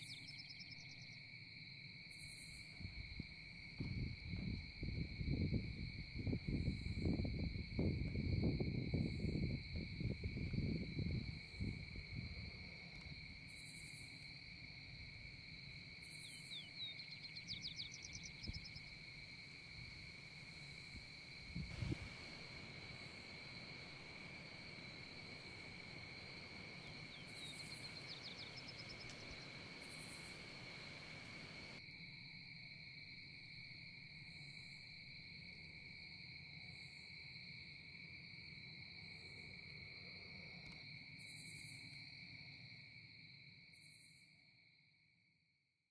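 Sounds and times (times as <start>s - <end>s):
insect buzzing drone: 0.0s - 44.6s.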